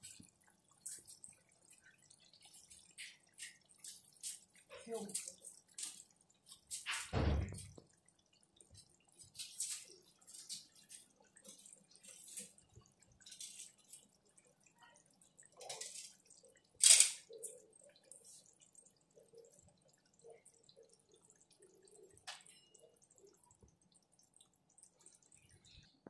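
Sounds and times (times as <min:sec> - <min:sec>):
curry bubbling and popping: 0:00.0 - 0:26.0.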